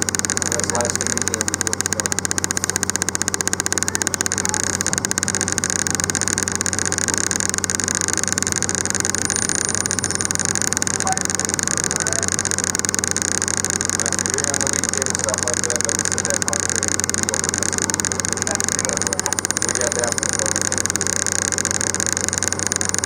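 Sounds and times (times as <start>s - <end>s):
fast fluttering rattle: 0.0s - 23.0s.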